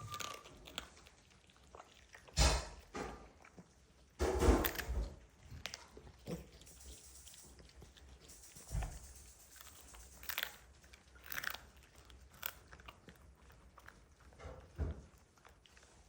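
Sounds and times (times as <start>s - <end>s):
dog chewing bone treat: 0.0s - 16.0s.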